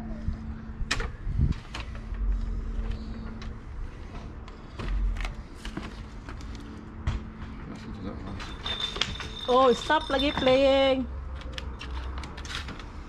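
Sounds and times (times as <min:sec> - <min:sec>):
faint steady hum: 0:00.0 - 0:10.5.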